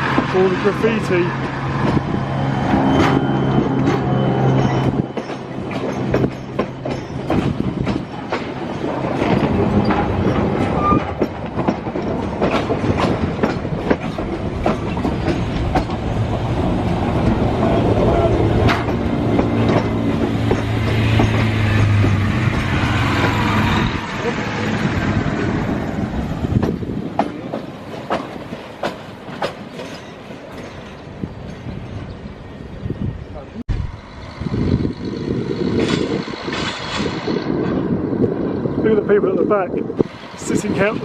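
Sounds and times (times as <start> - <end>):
train wheels clicking on rail joints: 0.0 - 32.2, 34.0 - 38.4.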